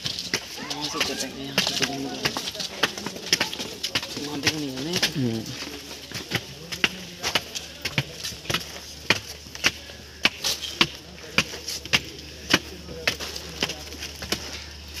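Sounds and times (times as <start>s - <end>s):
footsteps climbing stairs: 0.0s - 15.0s.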